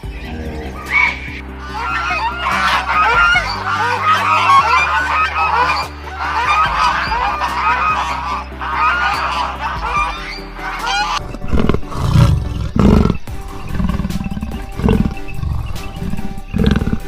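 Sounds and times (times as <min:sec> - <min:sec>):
flock of birds calling: 0:00.0 - 0:17.0
steady low drone: 0:00.0 - 0:17.0.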